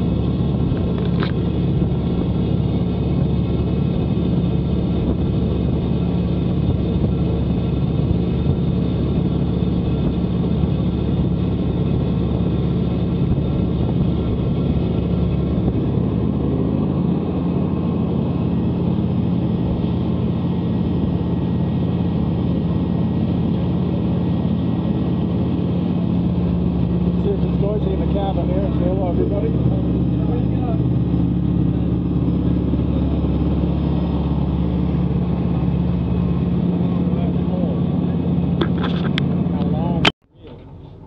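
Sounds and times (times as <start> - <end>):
boat engine drone: 0.0 - 41.0
water rushing along hull: 0.0 - 41.0.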